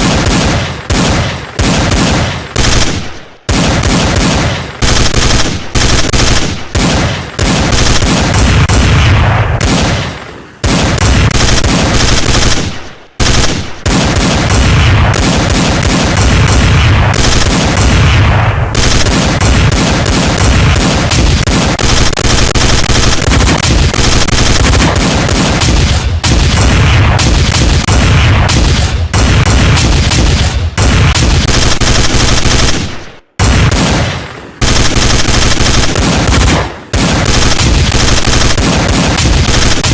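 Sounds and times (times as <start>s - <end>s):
machine-gun fire: 0.0s - 39.9s.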